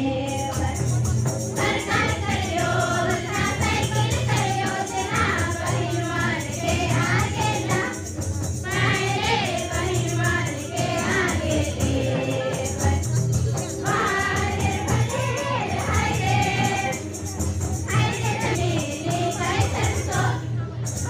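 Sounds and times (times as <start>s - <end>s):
girls singing in chorus: 0.0s - 0.9s, 1.6s - 17.2s, 17.9s - 20.5s.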